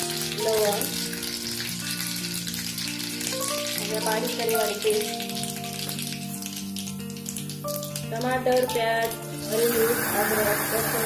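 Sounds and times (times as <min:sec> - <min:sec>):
background music: 0:00.0 - 0:11.0
hot oil sizzling and crackling: 0:00.0 - 0:11.0.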